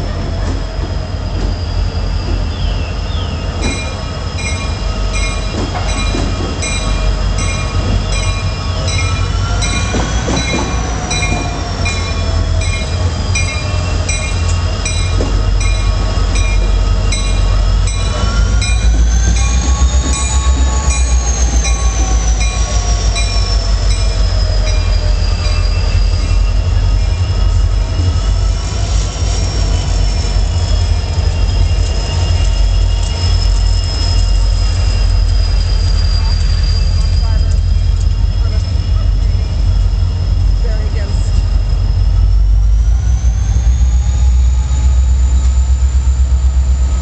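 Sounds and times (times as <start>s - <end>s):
diesel locomotive engine rumble: 0.0s - 47.0s
steel wheels squealing: 0.0s - 47.0s.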